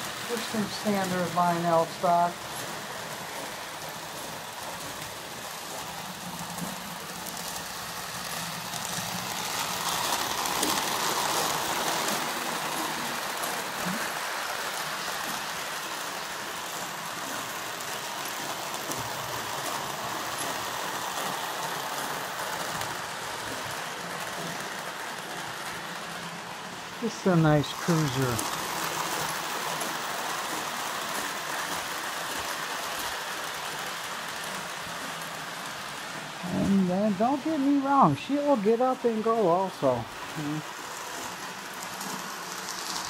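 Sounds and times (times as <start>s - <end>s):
toy train rolling on rails: 0.0s - 43.0s.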